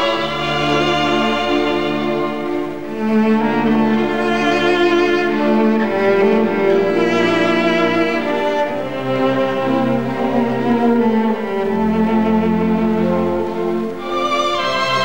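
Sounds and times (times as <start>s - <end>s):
bowed strings playing slow notes: 0.0s - 15.0s.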